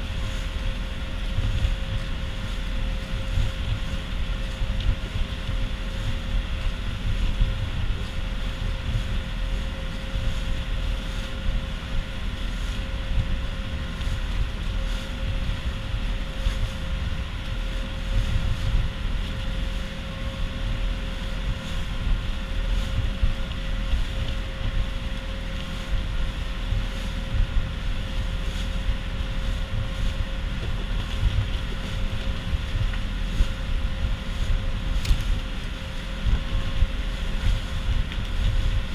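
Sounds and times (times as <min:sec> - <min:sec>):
boat engine droning: 0:00.0 - 0:38.9
wind buffeting microphone: 0:00.0 - 0:38.9.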